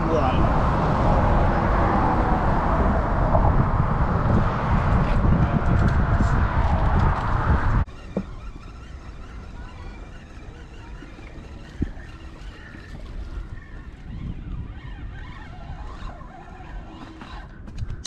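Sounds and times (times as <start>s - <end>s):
road traffic: 0.0s - 18.0s
wind rumbling on microphone: 0.0s - 18.0s.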